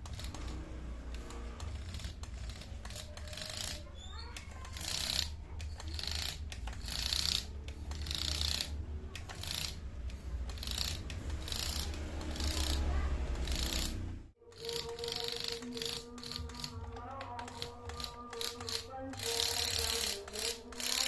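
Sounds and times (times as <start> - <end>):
small engine whirring and rattling: 0.0 - 21.0.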